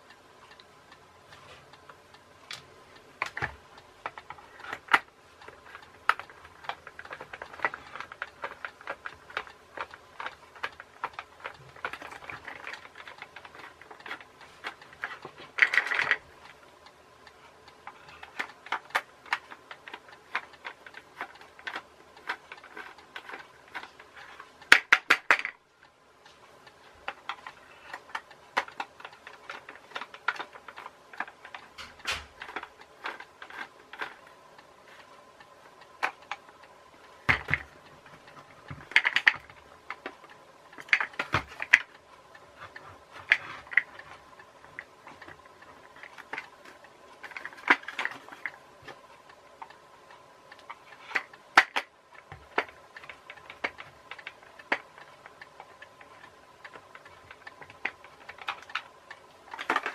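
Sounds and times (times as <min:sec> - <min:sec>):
plastic parts clicking and rattling: 0:02.5 - 0:16.6, 0:17.8 - 0:25.6, 0:27.0 - 0:34.4, 0:35.8 - 0:49.8, 0:50.5 - 0:59.9.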